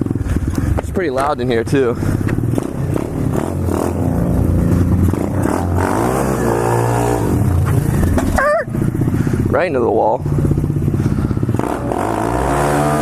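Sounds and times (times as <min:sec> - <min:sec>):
pit bike engine revving: 0:00.0 - 0:13.0.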